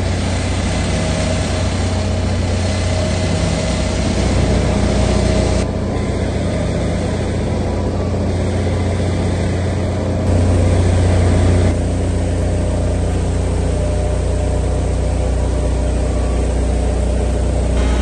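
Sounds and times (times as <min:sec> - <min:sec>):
drilling machinery droning: 0:00.0 - 0:18.0.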